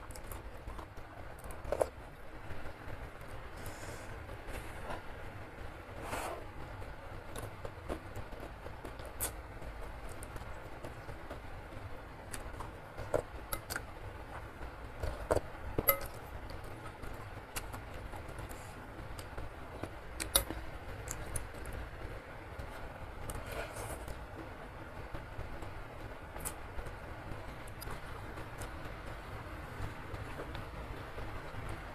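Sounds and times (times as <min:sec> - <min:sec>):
steady low rumble: 0:00.0 - 0:31.9.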